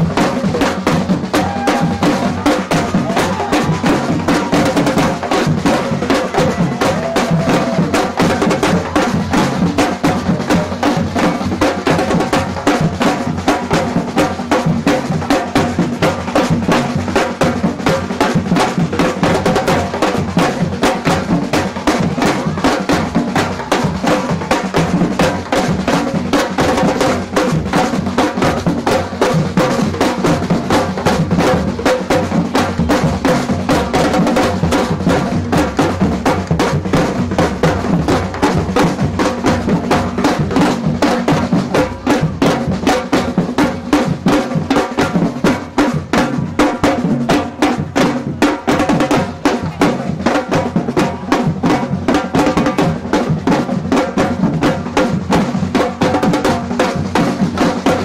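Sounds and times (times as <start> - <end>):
samba percussion band: 0.0 - 58.0.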